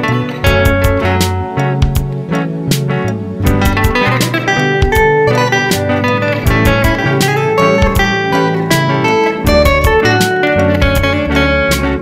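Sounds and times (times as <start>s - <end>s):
bass line: 0.0s - 12.0s
guitar: 0.0s - 12.0s
steady drum beat: 0.4s - 12.0s.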